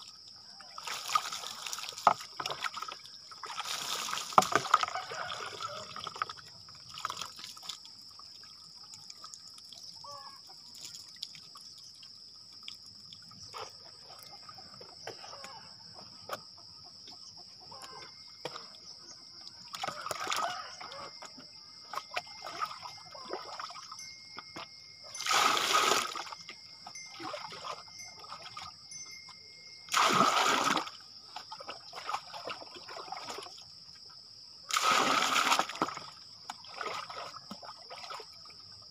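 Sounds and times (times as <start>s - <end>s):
water poured and splashing: 0.0s - 14.6s, 19.5s - 21.2s, 21.8s - 33.6s, 34.7s - 38.7s
water trickling and dripping: 0.0s - 15.5s, 17.8s - 34.0s.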